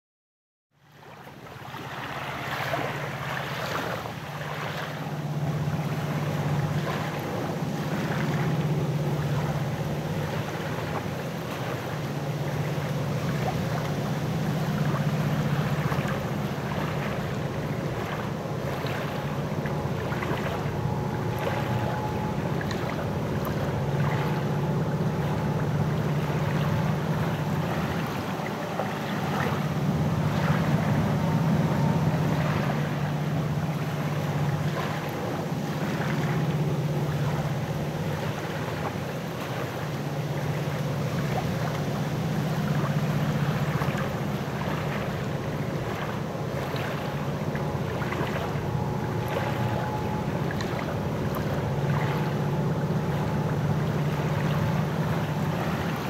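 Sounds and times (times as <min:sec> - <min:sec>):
diesel locomotive engine rumble: 0:04.1 - 0:56.0.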